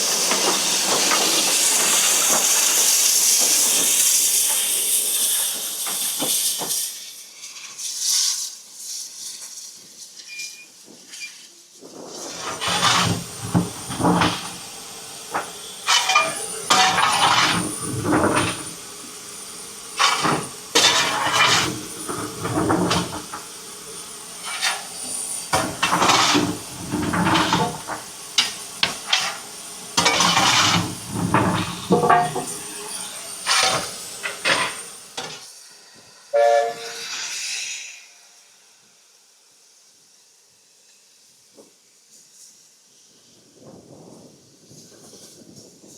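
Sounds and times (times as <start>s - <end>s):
steady steam hiss: 0.0s - 45.9s
steam locomotive exhaust puffs: 0.0s - 45.9s.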